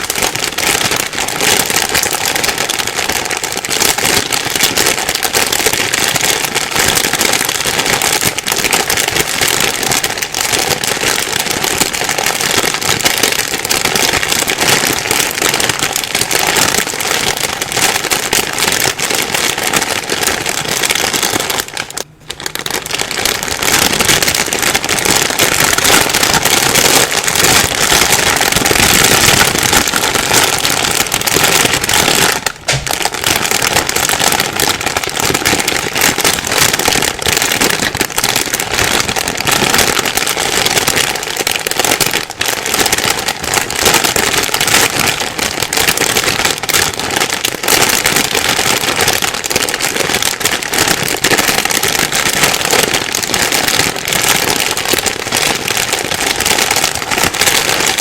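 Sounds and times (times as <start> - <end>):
plastic bag rustling: 0.0 - 58.0.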